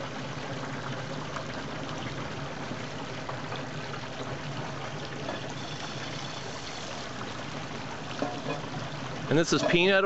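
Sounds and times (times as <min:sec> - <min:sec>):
hot oil sizzling and bubbling: 0:00.0 - 0:10.0.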